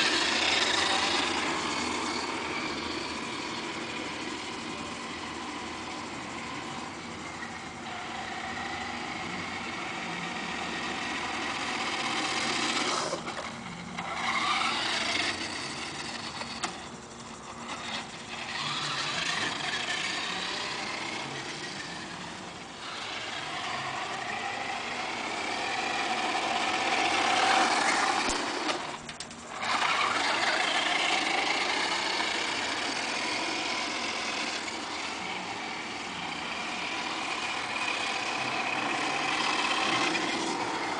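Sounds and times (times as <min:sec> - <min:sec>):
toy car motor whining: 0:00.0 - 0:40.9.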